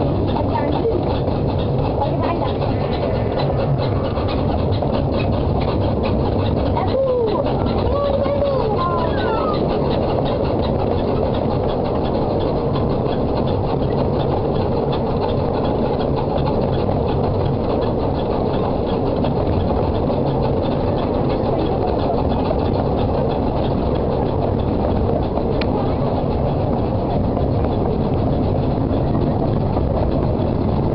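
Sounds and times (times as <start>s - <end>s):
fast regular ticking: 0.0s - 30.9s
small train running: 0.0s - 30.9s.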